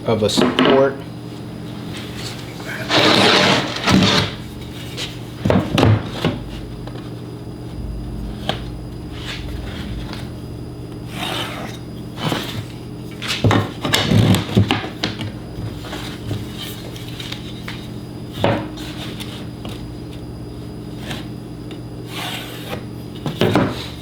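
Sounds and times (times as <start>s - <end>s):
steady low hum: 1.0s - 24.0s.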